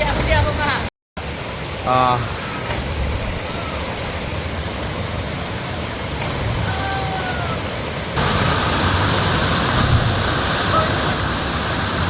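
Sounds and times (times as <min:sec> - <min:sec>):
waterfall rushing: 0:00.3 - 0:12.0.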